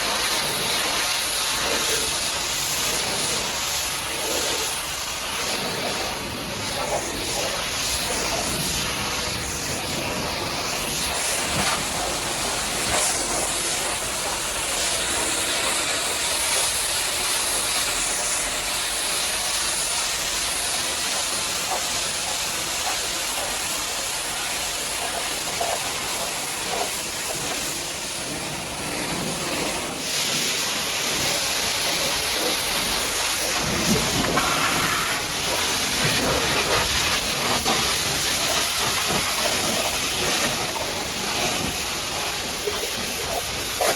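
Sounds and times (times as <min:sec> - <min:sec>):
pressure washer spraying water: 0:00.0 - 0:43.9.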